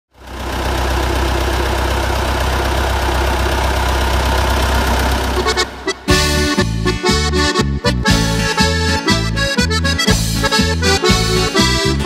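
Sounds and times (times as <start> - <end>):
tractor engine idling: 0.1 - 12.0.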